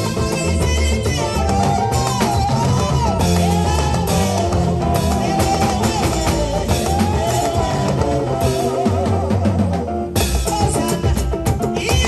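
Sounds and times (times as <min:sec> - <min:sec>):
drum kit: 0:00.0 - 0:12.0
electric guitar: 0:00.0 - 0:12.0.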